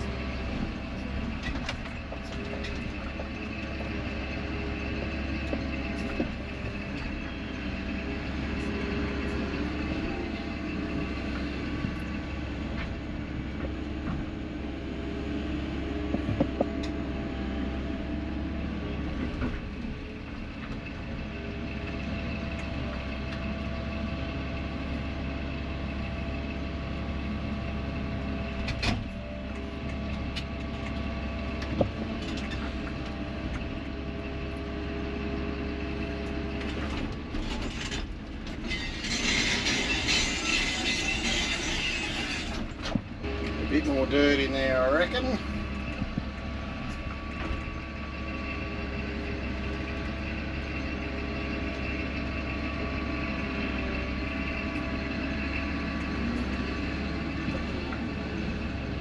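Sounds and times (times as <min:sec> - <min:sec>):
excavator engine running: 0:00.0 - 0:59.0
hydraulics working: 0:00.0 - 0:59.0.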